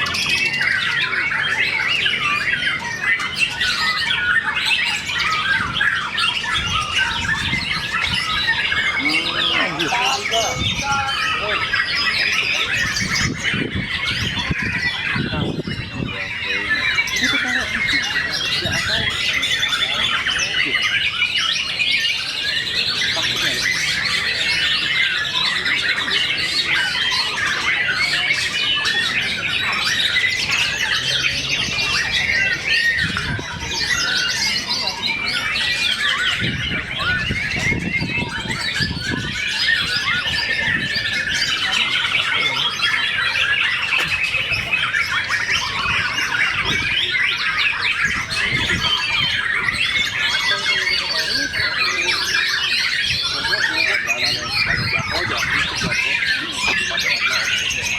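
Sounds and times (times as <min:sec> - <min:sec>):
caged songbirds chirping: 0:00.0 - 0:57.9.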